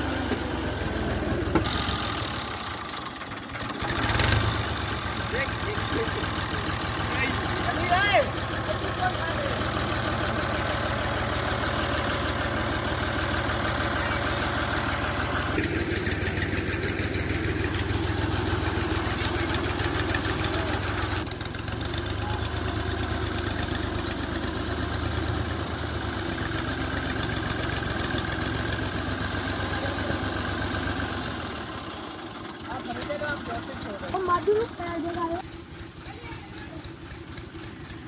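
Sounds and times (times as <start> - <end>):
diesel tractor engine chugging: 0.0 - 38.0.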